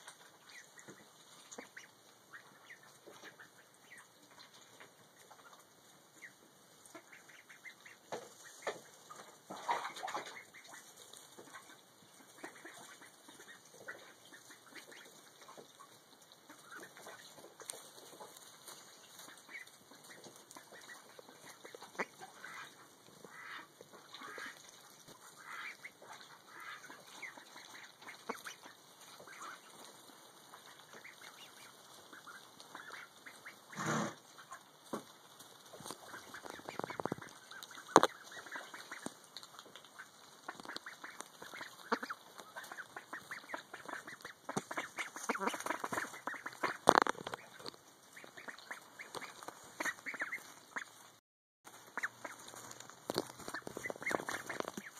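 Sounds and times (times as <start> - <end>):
ducks calling: 0.0 - 4.6, 6.2 - 35.0, 35.8 - 51.1, 51.7 - 54.9.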